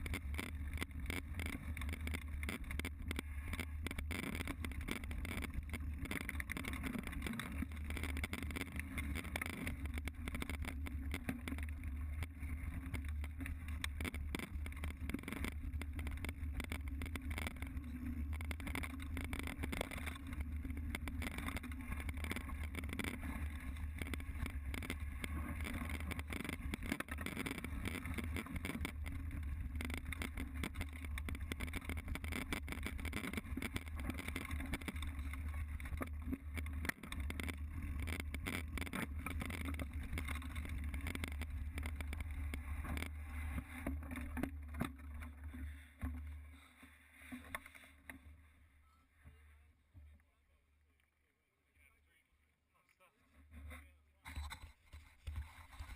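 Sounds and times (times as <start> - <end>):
bike rattling over rough ground: 0.0 - 48.5, 53.5 - 55.9.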